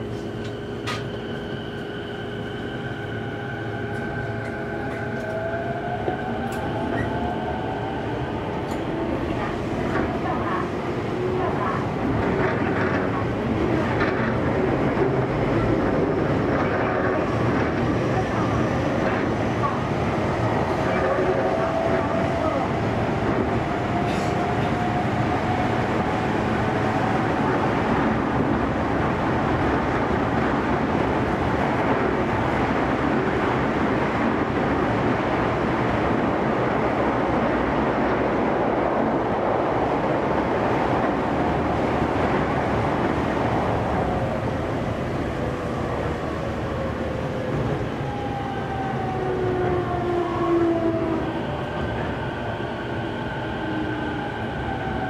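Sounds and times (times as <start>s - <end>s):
subway train wheels rumbling on track: 0.0s - 55.0s.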